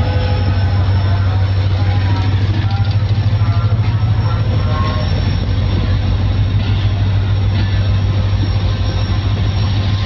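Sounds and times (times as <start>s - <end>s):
low drone: 0.0s - 10.0s
train coaches rumbling past: 0.0s - 10.0s.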